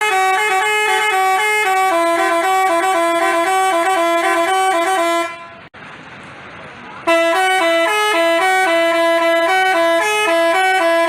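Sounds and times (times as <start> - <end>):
multi-tone bus horn tune: 0.0 - 5.7, 7.0 - 11.0.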